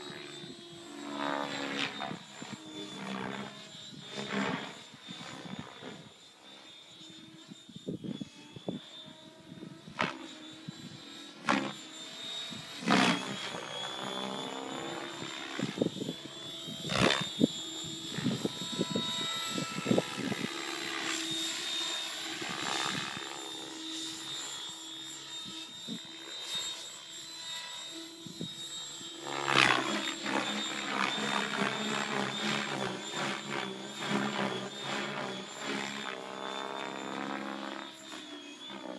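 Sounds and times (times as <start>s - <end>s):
radio-controlled helicopter whine: 0.0s - 38.9s.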